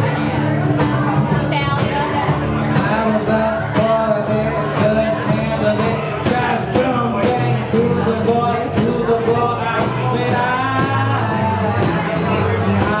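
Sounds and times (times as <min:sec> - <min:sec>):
acoustic guitar strumming: 0:00.0 - 0:13.0
electric bass: 0:00.0 - 0:13.0
mandolin: 0:00.0 - 0:13.0.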